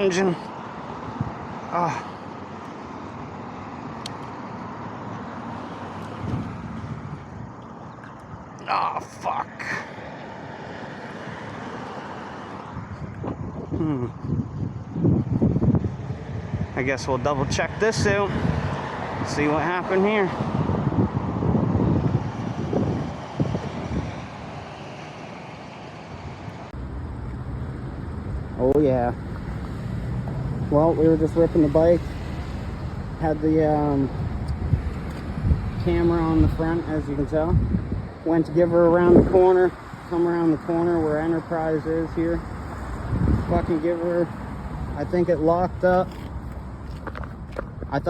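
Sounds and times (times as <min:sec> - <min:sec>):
low vehicle rumble: 0:00.0 - 0:48.0
road traffic noise: 0:00.0 - 0:48.0.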